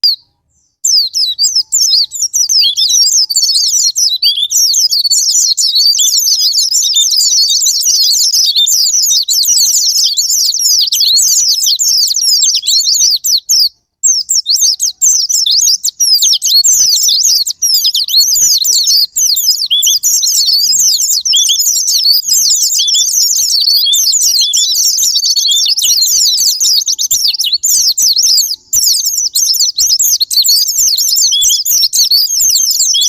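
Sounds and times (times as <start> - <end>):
birds twittering song: 0.0 - 33.0.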